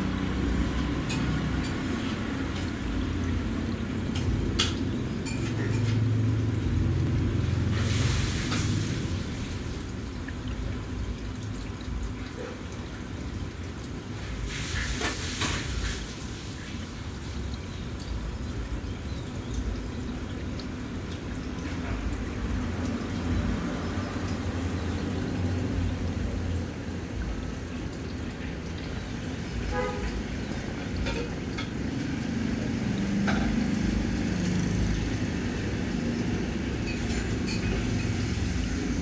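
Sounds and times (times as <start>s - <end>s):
aquarium filter trickling and bubbling: 0.0s - 39.0s.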